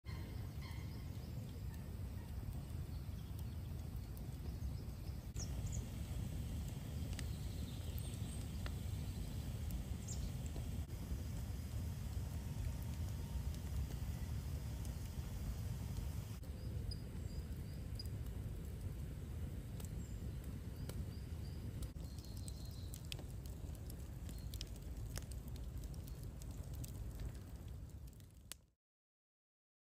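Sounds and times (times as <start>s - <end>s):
fire low rumble: 0.1s - 28.7s
wood fire crackling and popping: 1.1s - 28.7s.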